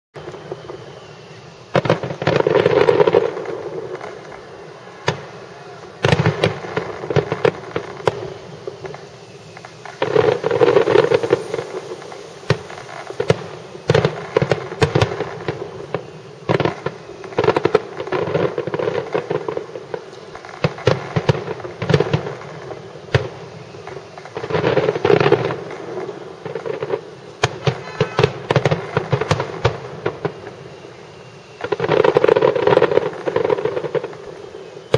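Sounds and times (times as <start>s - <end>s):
fireworks bursting and crackling: 0.2s - 34.9s.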